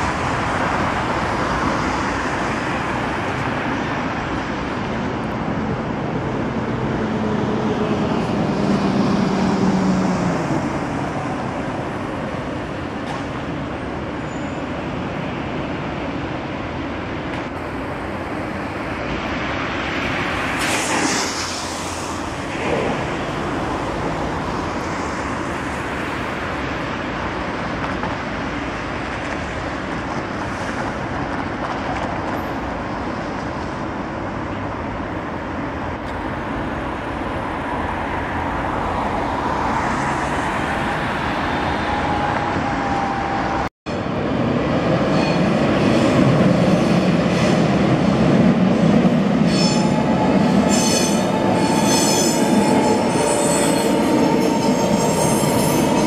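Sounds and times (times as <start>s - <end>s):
vehicle traffic rumble: 0.0s - 56.0s.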